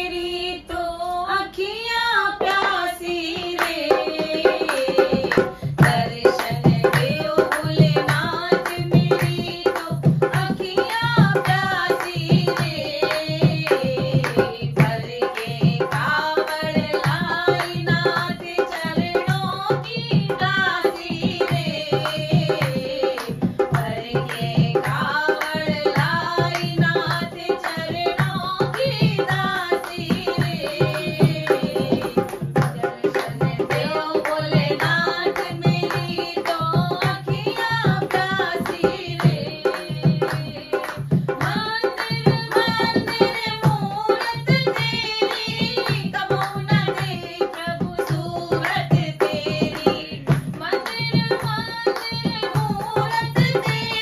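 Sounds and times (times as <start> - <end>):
women singing in unison: 0.0 - 54.0
hand drum rhythm: 2.4 - 54.0
hand-clapping: 3.5 - 54.0.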